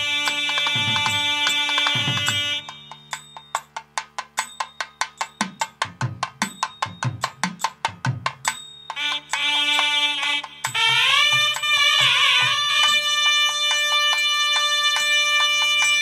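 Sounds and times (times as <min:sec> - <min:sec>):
quick percussion strikes: 0:00.0 - 0:16.0.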